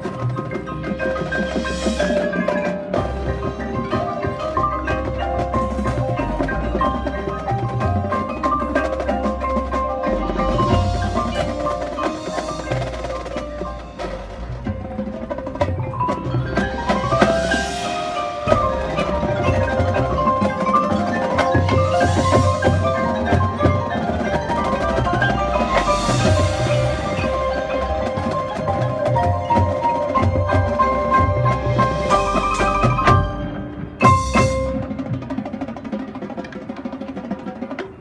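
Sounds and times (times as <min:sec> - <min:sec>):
drums thudding: 0:00.0 - 0:37.2
marimbas and mallet keyboards: 0:00.0 - 0:38.0.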